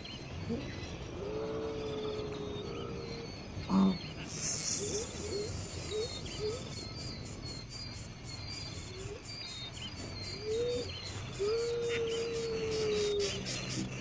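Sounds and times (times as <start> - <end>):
insects chirring: 0.0 - 14.0
birds chirping: 1.8 - 14.0.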